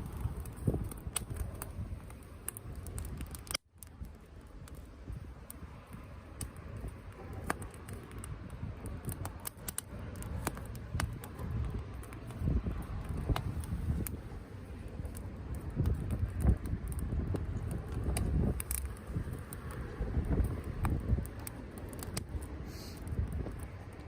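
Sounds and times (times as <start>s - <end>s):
campfire crackling and popping: 0.0s - 24.0s
low fire rumble: 0.0s - 24.0s.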